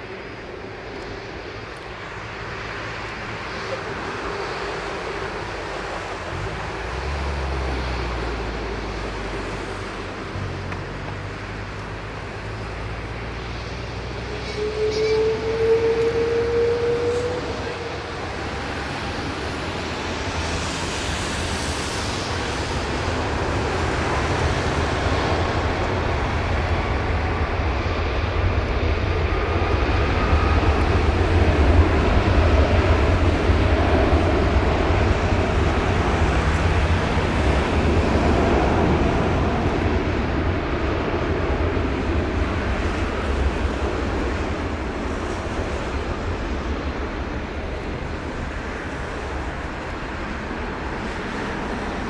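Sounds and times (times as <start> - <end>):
jet engine roar: 0.0 - 52.0.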